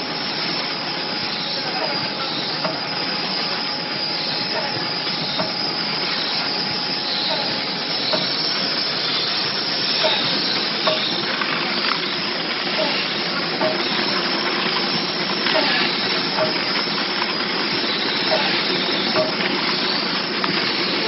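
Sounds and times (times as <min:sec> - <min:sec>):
packaging machine hissing: 0:00.0 - 0:21.0.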